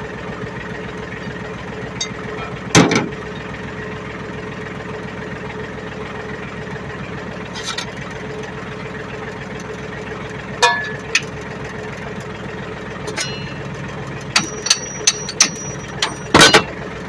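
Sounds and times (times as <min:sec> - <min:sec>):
diesel tractor engine idling: 0:00.0 - 0:17.0.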